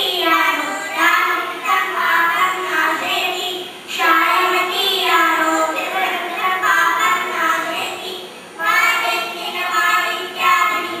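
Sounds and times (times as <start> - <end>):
girls singing together: 0.0 - 11.0.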